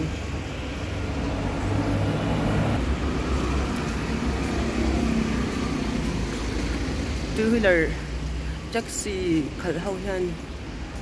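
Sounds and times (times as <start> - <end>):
low traffic rumble: 0.0 - 11.0
motor scooter engines: 0.0 - 11.0.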